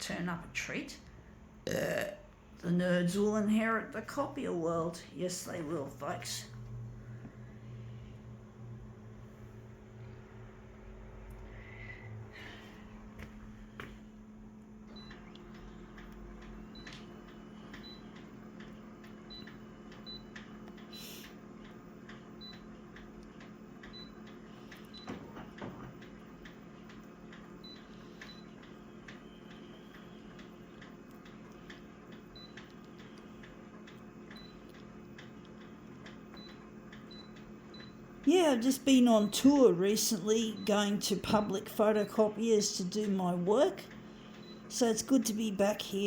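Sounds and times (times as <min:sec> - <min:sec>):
photocopier humming: 0:00.3 - 0:46.0.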